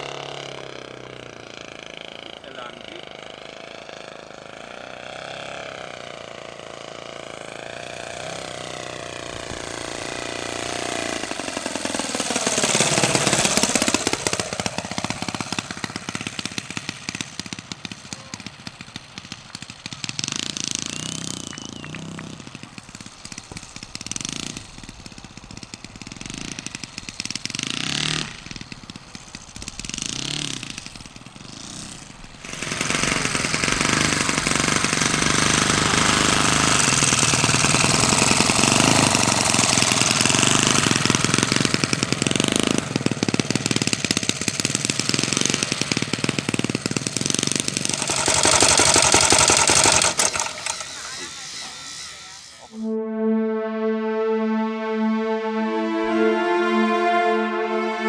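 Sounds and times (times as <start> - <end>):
model aircraft engine running: 0.0 - 52.8.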